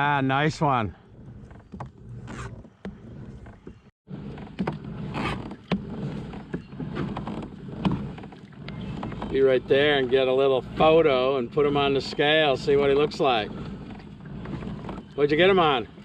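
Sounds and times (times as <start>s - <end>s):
light creaks: 1.0s - 11.0s, 11.6s - 16.0s
paddle knocking on plastic kayak: 1.3s - 16.0s.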